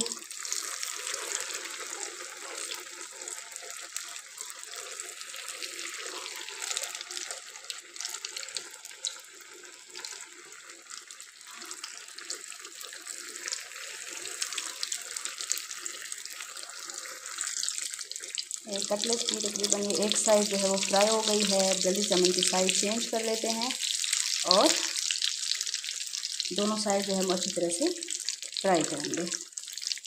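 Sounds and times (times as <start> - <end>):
food deep-frying in oil: 0.0 - 30.0.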